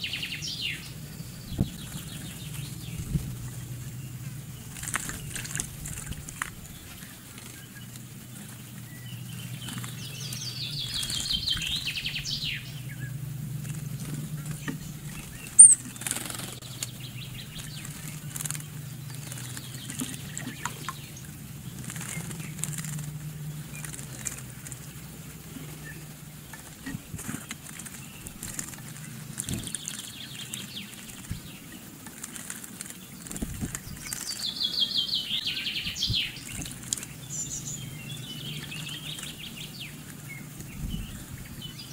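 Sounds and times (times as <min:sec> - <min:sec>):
birds splashing in water: 0:00.0 - 0:41.9
rapid wing fluttering: 0:00.0 - 0:41.9
steady low hum: 0:00.0 - 0:41.9.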